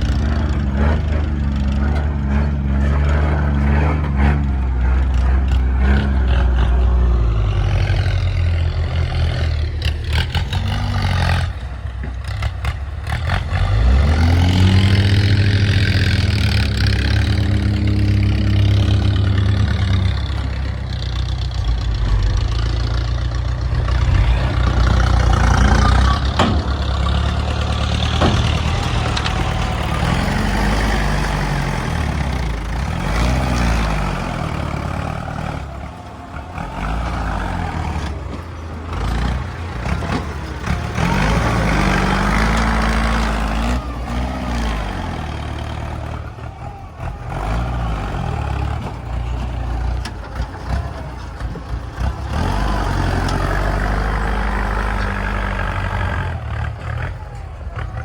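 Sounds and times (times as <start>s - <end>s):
heavy diesel engine revving: 0.0s - 58.0s
machinery clatter: 0.0s - 58.0s.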